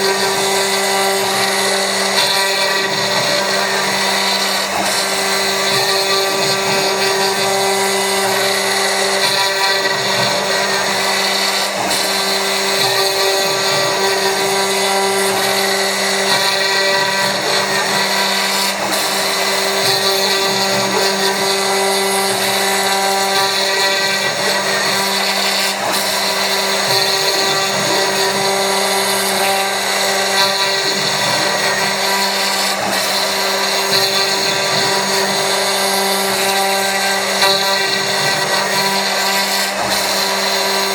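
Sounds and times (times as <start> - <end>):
milling machine humming: 0.0 - 40.9.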